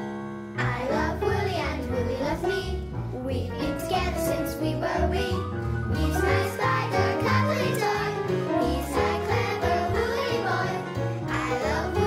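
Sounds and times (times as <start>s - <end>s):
instrumental backing: 0.0s - 12.0s
children's song singing: 0.6s - 12.0s.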